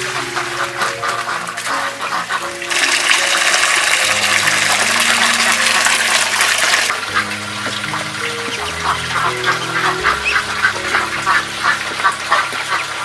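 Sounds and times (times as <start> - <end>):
water gushing: 0.0 - 13.0.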